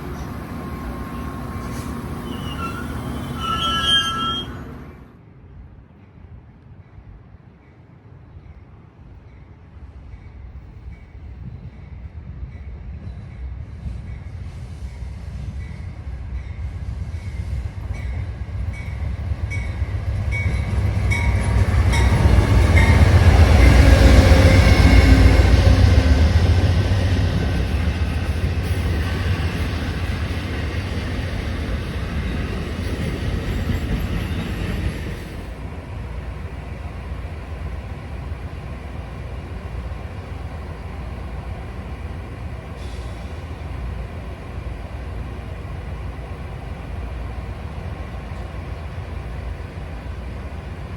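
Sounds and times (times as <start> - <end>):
train passing close by: 0.0 - 50.9.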